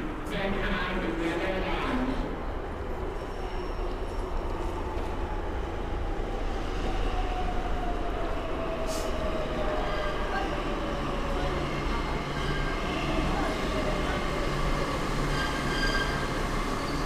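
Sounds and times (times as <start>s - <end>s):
rail vehicle rumbling: 0.0s - 17.0s.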